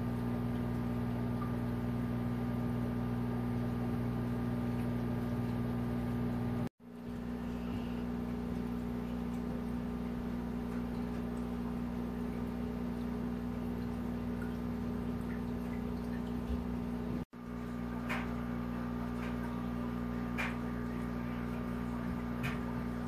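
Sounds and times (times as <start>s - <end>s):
aquarium equipment hum: 0.0s - 23.0s
water trickling: 0.0s - 23.0s.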